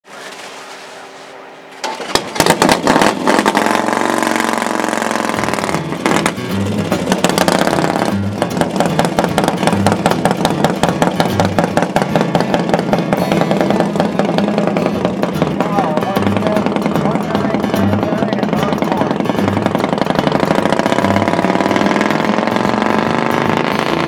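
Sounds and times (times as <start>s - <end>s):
racing motorcycle engine: 1.8s - 24.0s
music with slow beat: 3.6s - 24.0s.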